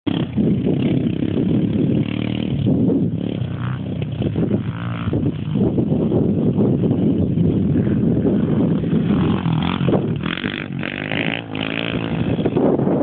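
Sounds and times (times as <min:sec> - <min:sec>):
small motorbike engine revving: 0:00.1 - 0:12.7
rough noisy rumble: 0:00.1 - 0:13.0.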